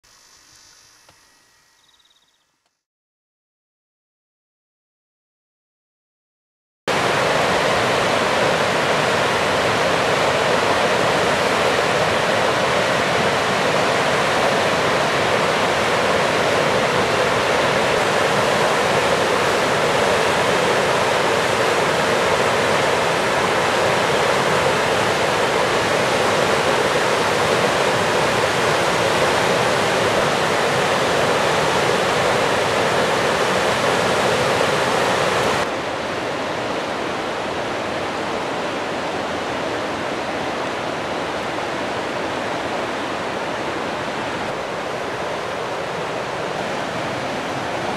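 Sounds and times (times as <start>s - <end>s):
whitewater rapids roaring: 6.9s - 47.9s.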